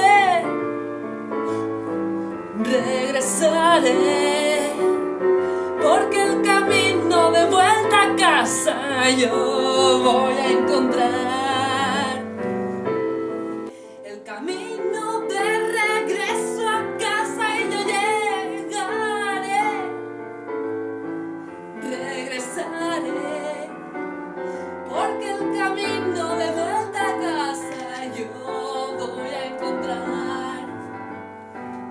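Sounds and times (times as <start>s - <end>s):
woman singing with vibrato: 0.0s - 0.9s, 2.5s - 12.5s, 13.9s - 20.2s, 21.7s - 24.1s, 24.8s - 31.0s
piano accompaniment: 0.0s - 31.9s.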